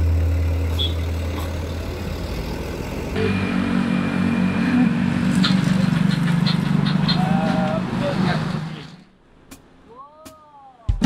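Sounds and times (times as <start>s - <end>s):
vehicle engine humming: 0.0s - 9.9s.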